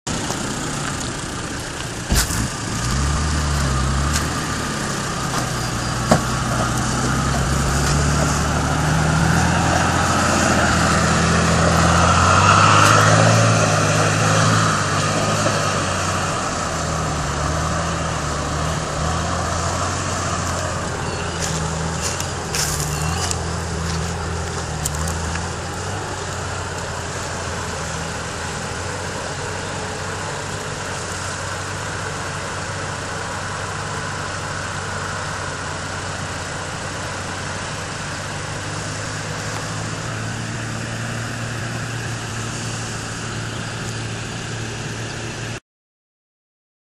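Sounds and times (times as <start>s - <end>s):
vehicle engine running under load: 0.1s - 45.6s.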